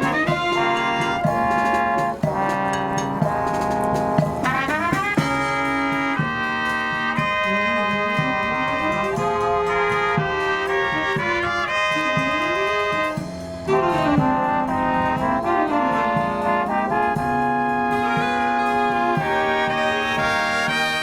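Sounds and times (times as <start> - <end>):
brass marching band playing: 0.0 - 21.0.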